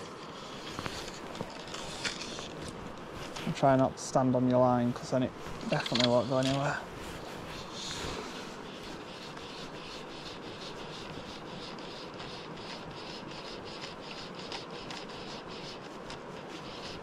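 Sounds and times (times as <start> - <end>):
hands rubbing against fly rod: 0.0 - 17.0
steady hiss: 0.0 - 17.0.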